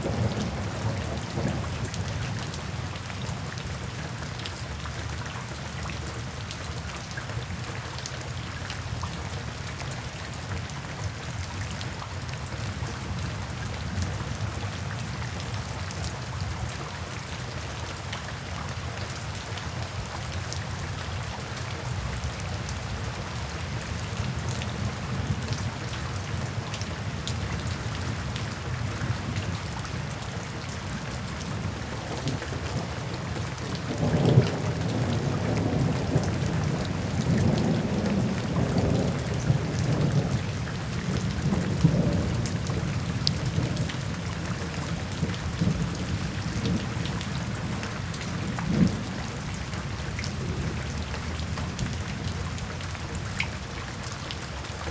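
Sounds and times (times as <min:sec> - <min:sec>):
rain drumming on a tin roof: 0:00.0 - 0:54.9.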